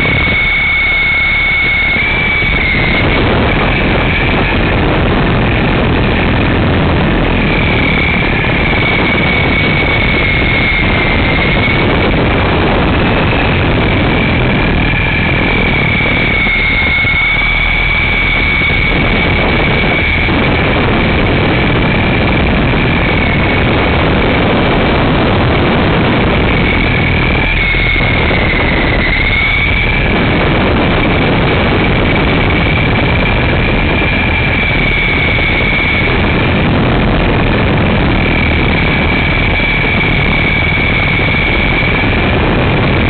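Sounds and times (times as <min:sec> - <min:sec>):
rc helicopter motor whine: 0:00.0 - 0:43.0.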